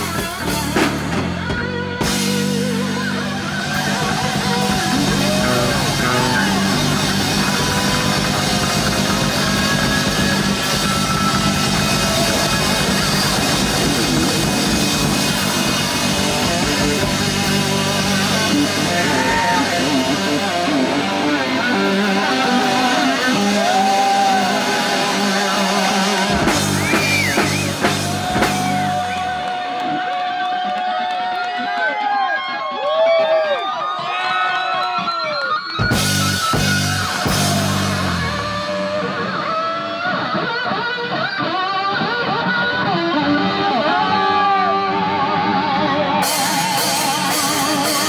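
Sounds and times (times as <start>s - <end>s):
bass guitar: 0.0s - 30.1s, 35.0s - 48.0s
drums: 0.0s - 48.0s
electric guitar: 0.0s - 48.0s.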